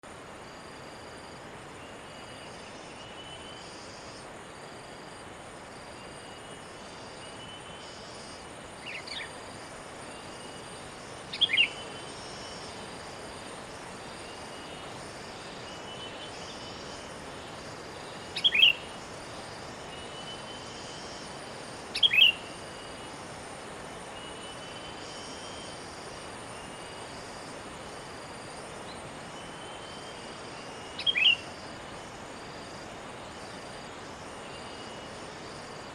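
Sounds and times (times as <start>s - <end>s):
insects hissing: 0.1s - 35.9s.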